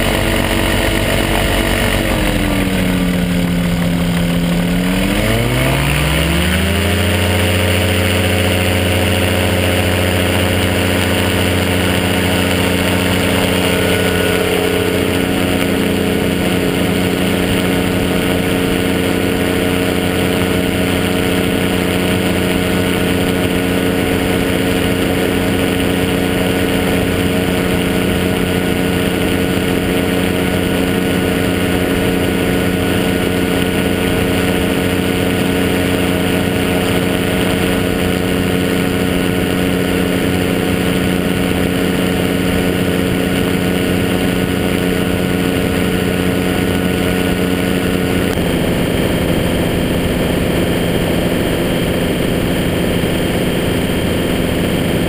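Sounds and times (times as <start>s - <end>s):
aircraft engine running: 0.0s - 55.0s.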